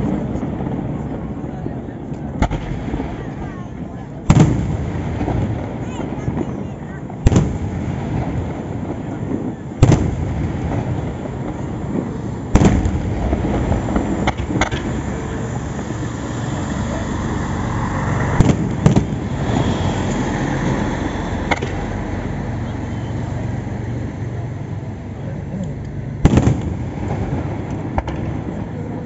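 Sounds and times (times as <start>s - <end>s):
continuous low rumble: 0.0s - 29.0s
fireworks bangs: 0.0s - 29.0s.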